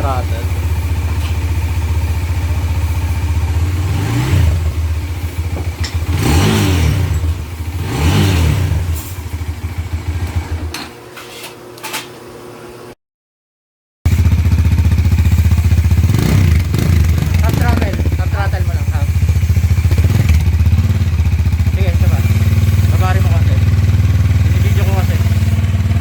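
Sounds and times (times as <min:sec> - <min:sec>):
motorcycle engine idling and revving: 0:00.0 - 0:10.9, 0:14.1 - 0:26.0.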